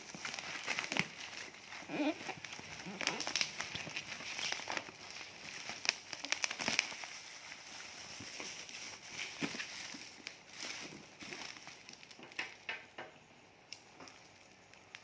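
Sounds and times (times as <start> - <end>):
cardboard packaging rustling: 0.0 - 12.7.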